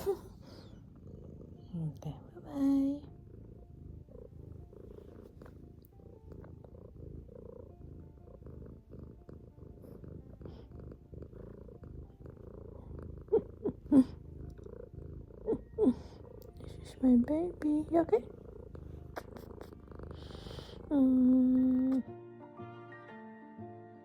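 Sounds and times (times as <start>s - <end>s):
cat purring: 0.0s - 22.2s.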